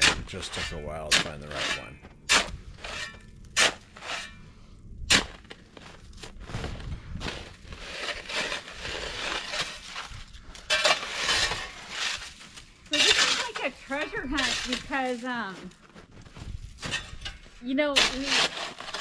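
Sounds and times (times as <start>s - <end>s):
crunching and scraping in snow: 0.0s - 2.2s, 5.4s - 19.0s.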